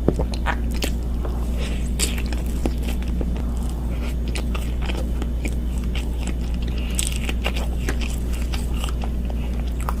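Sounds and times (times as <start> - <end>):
low steady hum: 0.0 - 10.0
person chewing cake: 0.0 - 10.0.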